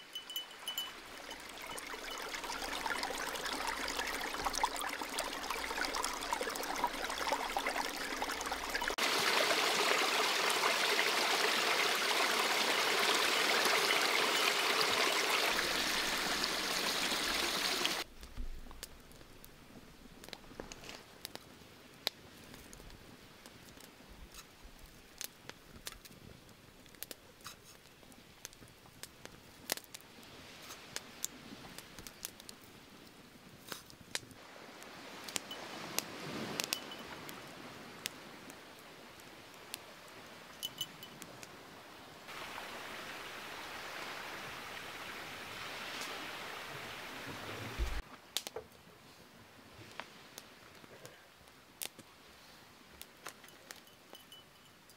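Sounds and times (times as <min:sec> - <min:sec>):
campfire crackling and popping: 0:00.1 - 0:41.6, 0:48.0 - 0:48.8, 0:49.9 - 0:52.1.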